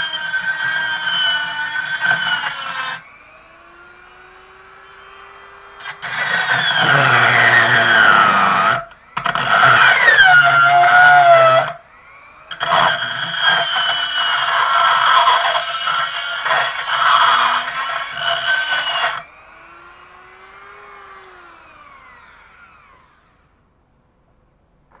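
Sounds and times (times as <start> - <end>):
rotary tool grinding metal: 0.0 - 3.1, 4.2 - 11.8, 12.5 - 23.4
tool motor winding down: 0.0 - 23.7.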